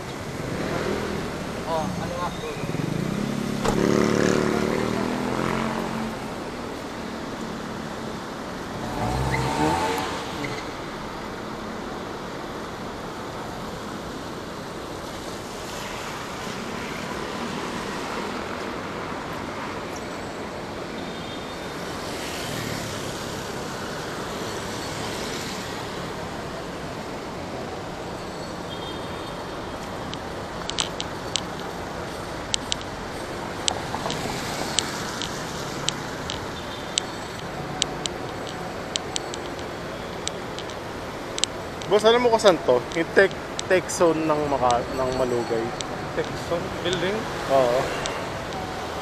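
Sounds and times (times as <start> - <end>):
cars passing on road: 0.0 - 49.0
steady traffic hum: 0.0 - 49.0.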